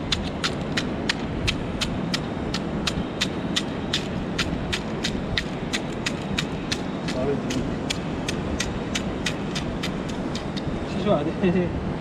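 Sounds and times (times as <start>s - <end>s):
steady rushing noise: 0.0s - 12.0s
stone knocking on mussel shells: 0.1s - 10.8s.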